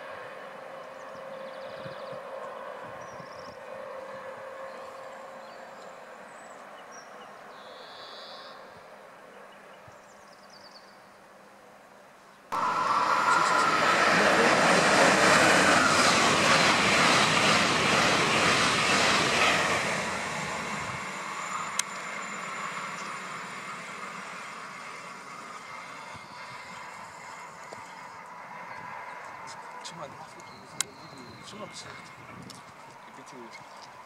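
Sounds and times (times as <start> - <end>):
high-speed train rushing past: 0.0 - 6.3, 12.5 - 34.0.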